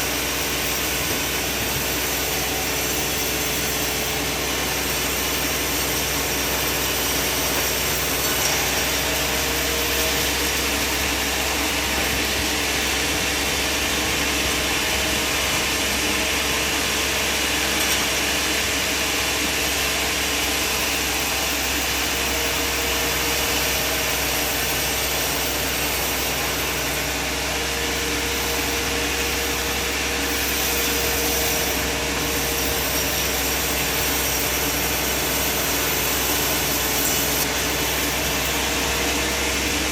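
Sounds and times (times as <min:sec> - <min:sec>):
sawmill machine droning: 0:00.0 - 0:39.9.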